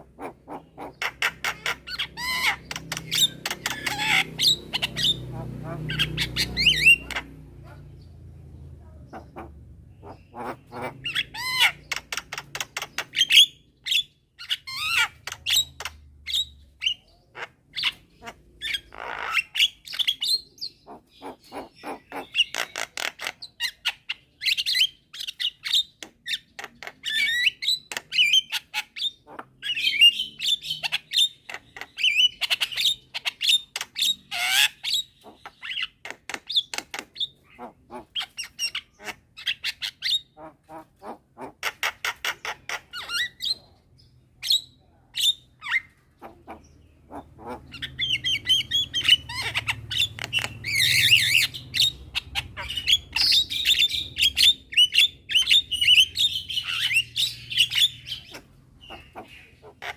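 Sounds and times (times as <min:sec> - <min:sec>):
mynas chattering and squawking: 0:00.0 - 0:59.9.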